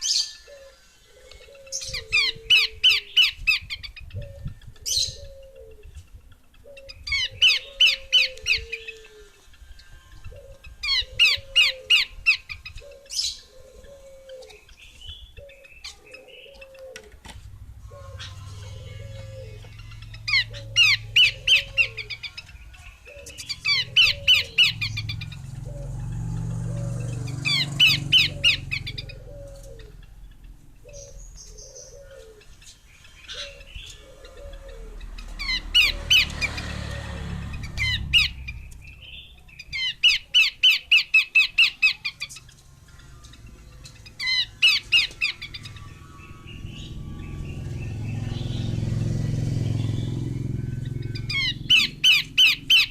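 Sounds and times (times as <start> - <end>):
bird chattering calls: 0.0 - 9.4, 10.3 - 49.0, 49.6 - 52.9.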